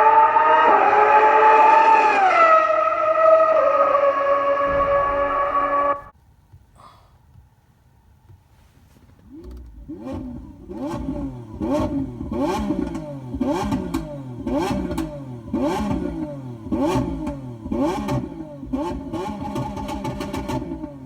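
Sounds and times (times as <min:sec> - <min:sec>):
recorded engine revving over speaker: 0:00.0 - 0:06.1, 0:09.3 - 0:21.0.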